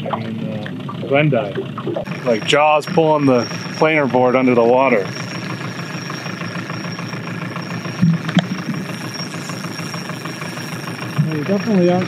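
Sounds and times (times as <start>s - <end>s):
outboard boat motor running: 0.0s - 12.0s.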